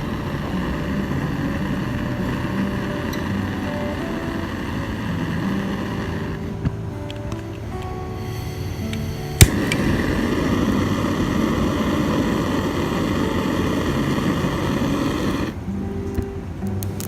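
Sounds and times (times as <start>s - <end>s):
gas torch hissing: 0.0s - 6.7s, 8.1s - 15.6s.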